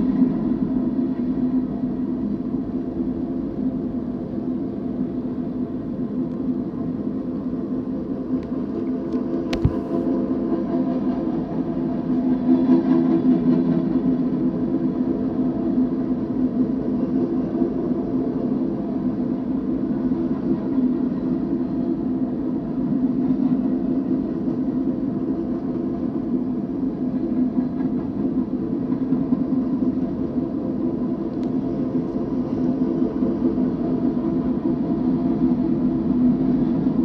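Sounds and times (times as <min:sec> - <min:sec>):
freight train cars rolling on rails: 0:00.0 - 0:37.0.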